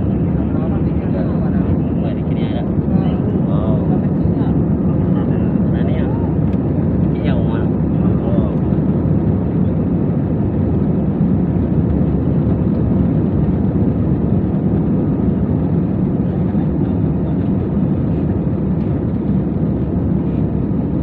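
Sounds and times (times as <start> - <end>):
airliner cabin noise: 0.0 - 21.0.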